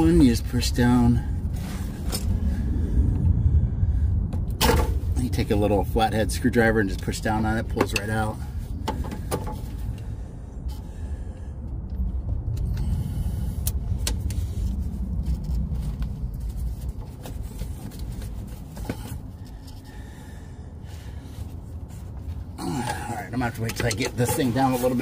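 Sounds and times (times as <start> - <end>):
low rumble: 0.0 - 23.6.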